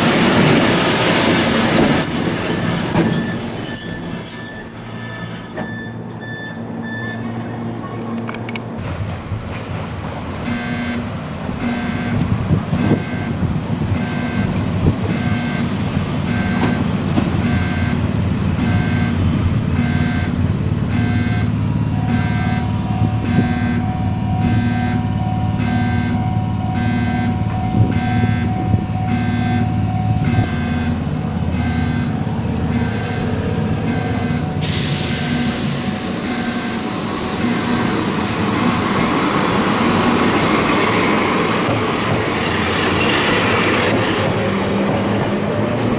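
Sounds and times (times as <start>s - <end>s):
train hissing: 0.0s - 45.9s
level crossing alarm beeping: 0.6s - 8.8s, 10.4s - 39.6s.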